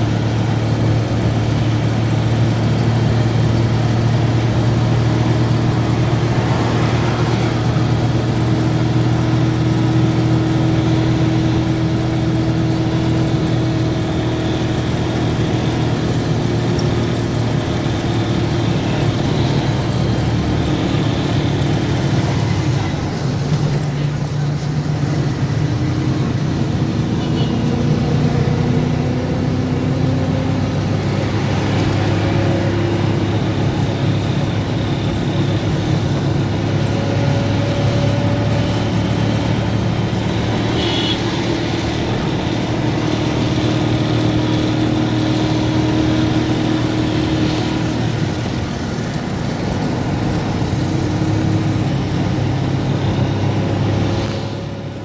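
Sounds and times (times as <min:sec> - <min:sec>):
passing motorcycles and cars: 0:00.0 - 0:55.0
vehicle engine and road noise: 0:00.0 - 0:55.0.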